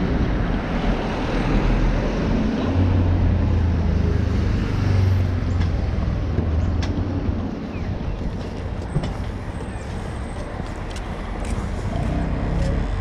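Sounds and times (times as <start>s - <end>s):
street traffic noise: 0.0s - 13.0s
vehicle engine humming: 0.0s - 13.0s.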